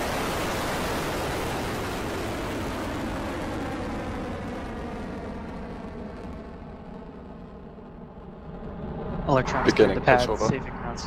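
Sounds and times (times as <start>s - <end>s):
rocket engines rushing rumble: 0.0s - 11.0s.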